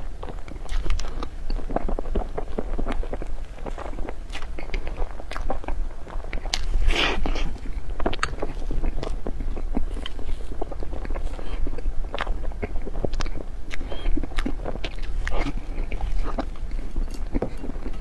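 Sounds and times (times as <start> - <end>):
chewing with wet mouth clicks: 0.0 - 18.0.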